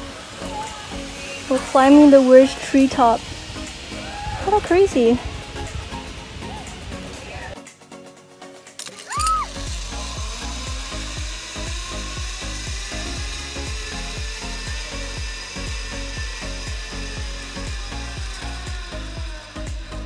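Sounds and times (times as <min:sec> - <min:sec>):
zipline pulleys whirring on cable: 0:00.0 - 0:07.6, 0:08.6 - 0:20.0
background music with beat: 0:03.2 - 0:20.0.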